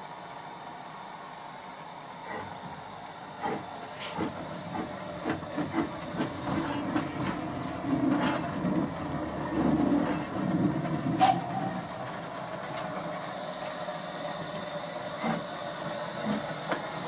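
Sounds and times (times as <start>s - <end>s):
steam locomotive chuffing: 0.0s - 17.0s
steam locomotive hissing: 0.0s - 17.0s.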